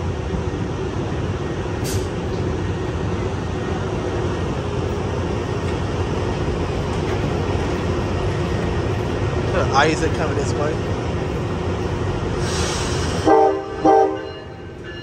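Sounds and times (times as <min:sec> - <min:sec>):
idling train hum and rumble: 0:00.0 - 0:15.0.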